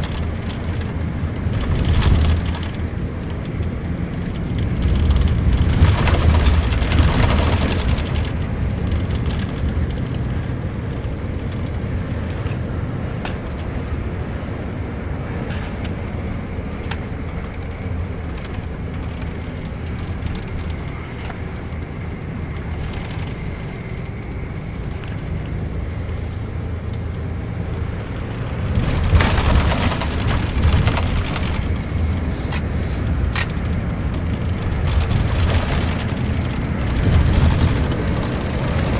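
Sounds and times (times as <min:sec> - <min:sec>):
bus engine droning: 0:00.0 - 0:38.9
road noise: 0:00.0 - 0:38.9.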